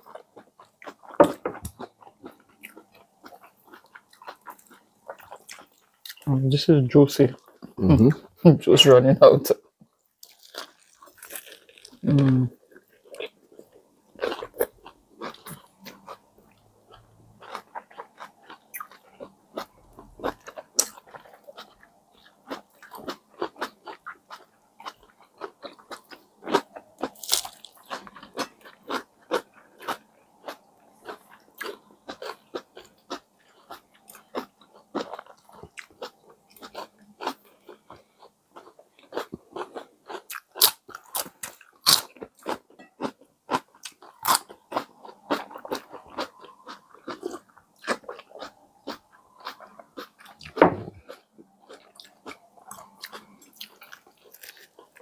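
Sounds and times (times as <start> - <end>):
people chewing sandwiches: 0.0 - 6.4, 10.1 - 55.0.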